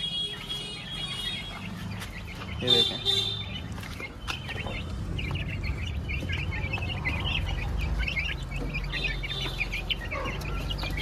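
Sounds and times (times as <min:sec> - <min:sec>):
chicks and ducklings peeping: 0:00.0 - 0:11.0.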